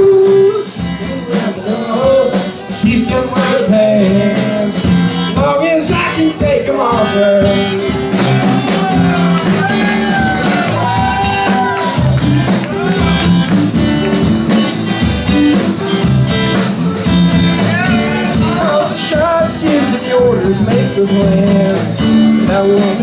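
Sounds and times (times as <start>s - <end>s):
person singing: 0.0s - 13.4s, 17.6s - 23.0s
bass: 0.0s - 23.0s
live country-rock band: 0.0s - 23.0s
steady drum beat: 0.0s - 23.0s
bending melodic lead line: 2.0s - 23.0s.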